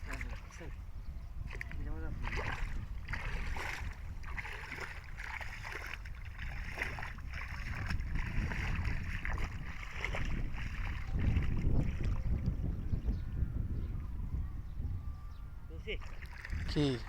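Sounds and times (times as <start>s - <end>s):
muddy water sloshing and splashing: 0.0s - 12.8s, 15.8s - 17.0s
wind rumble on microphone: 0.0s - 17.0s.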